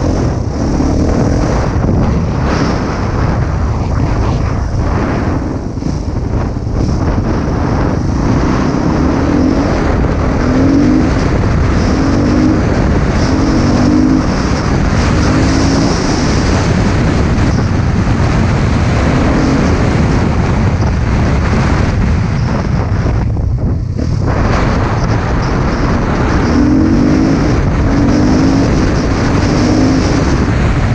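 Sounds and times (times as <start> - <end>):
motocross bike engine revving: 0.0 - 20.6, 24.0 - 30.5
wind noise on microphone: 0.0 - 30.9.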